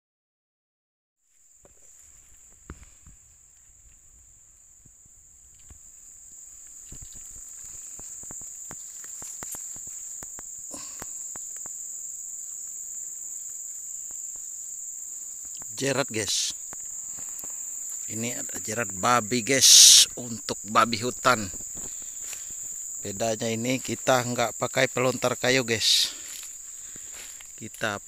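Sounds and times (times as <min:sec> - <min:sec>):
high insect chorus: 0:01.2 - 0:28.0.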